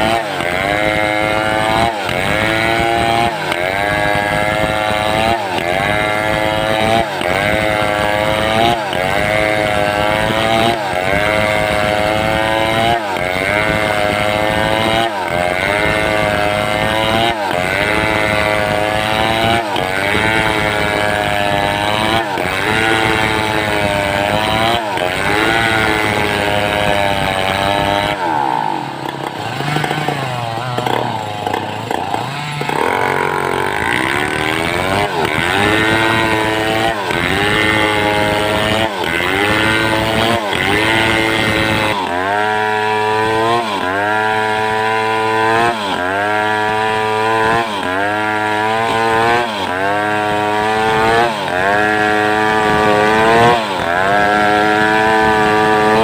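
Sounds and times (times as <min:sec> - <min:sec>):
chainsaw ripping wood: 0:00.0 - 0:56.0.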